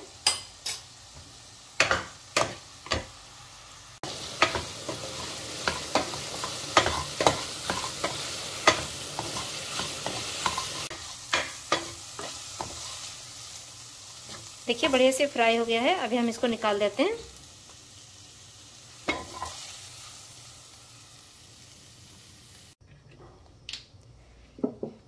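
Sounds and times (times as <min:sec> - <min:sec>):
oil sizzling in a pan: 0:00.0 - 0:22.8.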